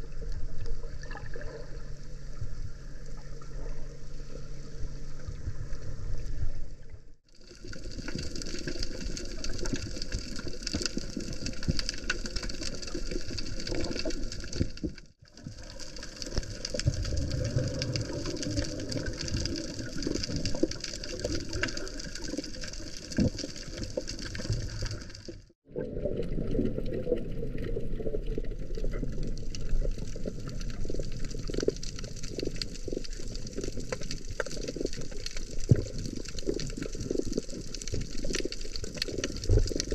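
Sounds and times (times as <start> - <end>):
small underwater crackles: 0.0 - 39.9
underwater rush of water: 0.0 - 39.9.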